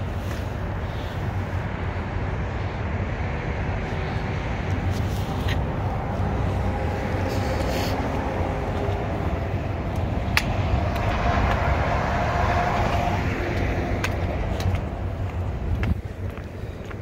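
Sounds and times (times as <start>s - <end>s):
road traffic rumble: 0.0s - 17.0s
vehicle passing by: 1.4s - 17.0s.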